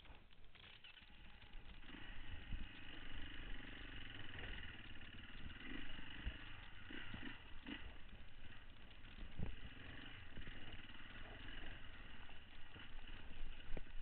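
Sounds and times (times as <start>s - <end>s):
low thumps over rough ground: 0.0s - 14.0s
motorcycle engine running: 0.0s - 14.0s.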